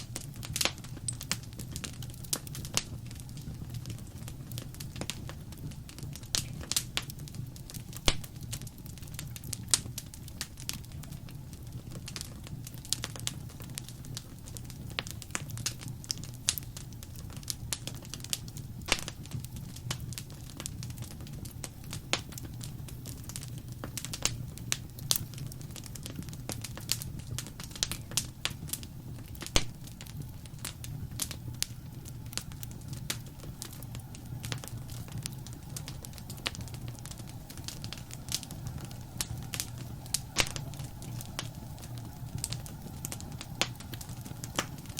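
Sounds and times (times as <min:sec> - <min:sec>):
burning wood crackling and popping: 0:00.0 - 0:44.9
fire flames rumbling: 0:00.0 - 0:44.9.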